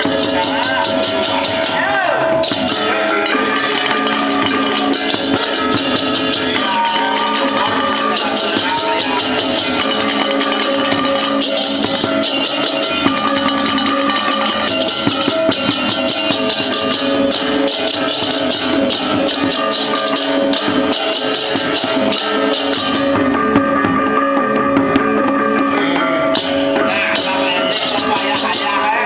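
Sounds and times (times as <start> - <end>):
drums: 0.0 - 29.0
held metallic gamelan tones: 0.0 - 29.0.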